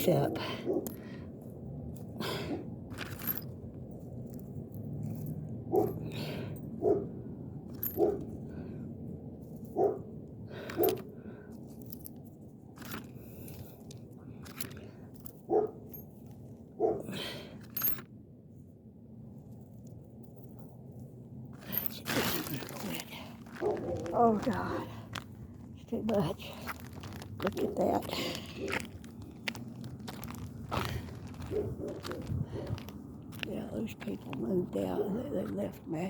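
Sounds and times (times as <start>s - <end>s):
low steady background noise: 0.0s - 36.0s.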